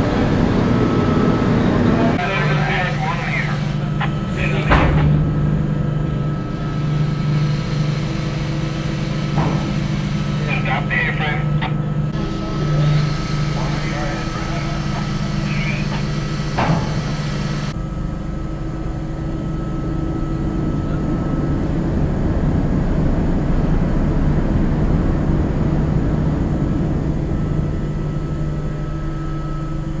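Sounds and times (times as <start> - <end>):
ship deck machinery drone: 0.0 - 30.0.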